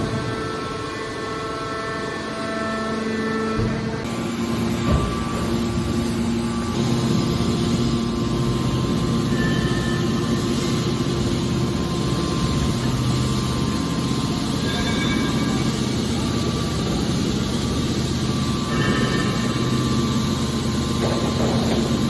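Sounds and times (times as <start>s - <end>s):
baler machine humming: 3.8s - 22.0s.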